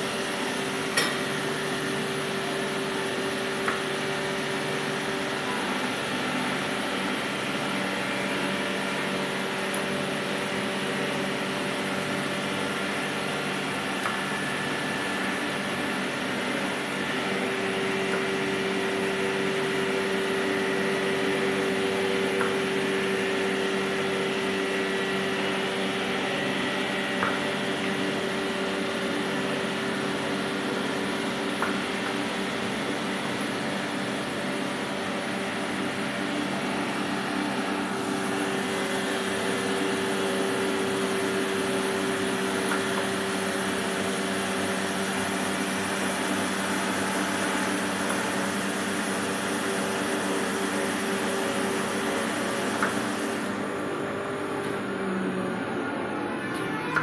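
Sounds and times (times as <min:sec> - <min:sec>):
workshop machinery drone: 0:00.0 - 0:57.0.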